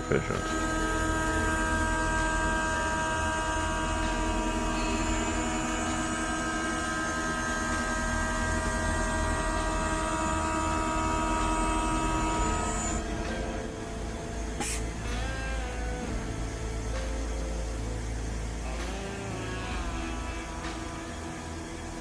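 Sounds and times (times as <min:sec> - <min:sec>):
milling machine whining: 0:00.0 - 0:22.0.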